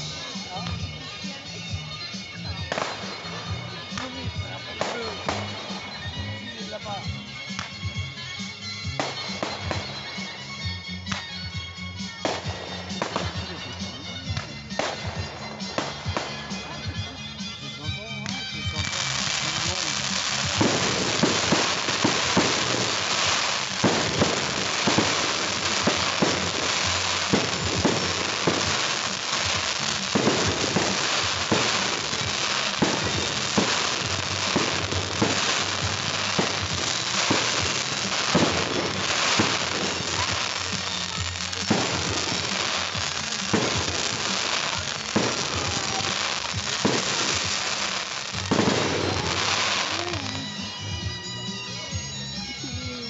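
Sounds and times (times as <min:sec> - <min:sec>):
fireworks bangs: 0:00.0 - 0:51.2
fireworks crackling: 0:00.0 - 0:53.0.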